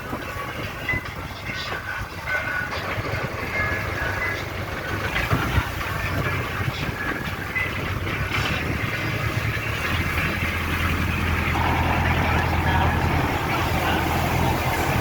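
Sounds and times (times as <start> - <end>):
constant rushing noise: 0.0 - 15.0
engine humming: 0.0 - 15.0.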